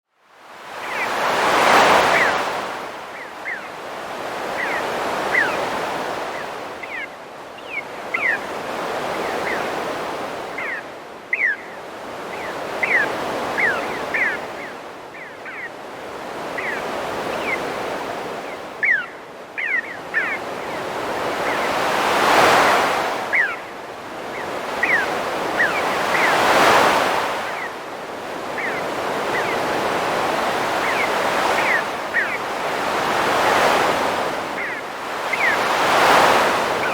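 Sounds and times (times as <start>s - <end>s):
ocean waves breaking: 0.4s - 10.9s, 12.0s - 36.9s
birds calling: 0.7s - 36.9s.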